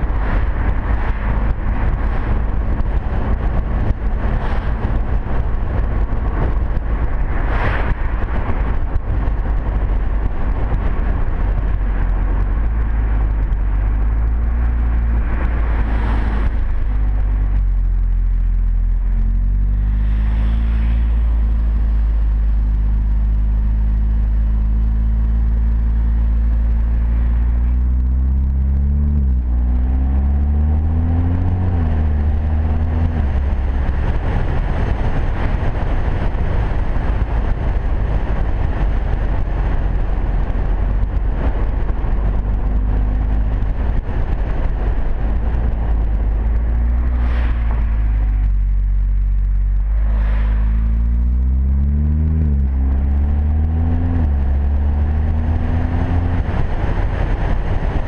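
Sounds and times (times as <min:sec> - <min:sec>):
rushing noise: 0:00.0 - 0:23.5, 0:25.6 - 0:58.0
car engine accelerating: 0:00.0 - 0:58.0.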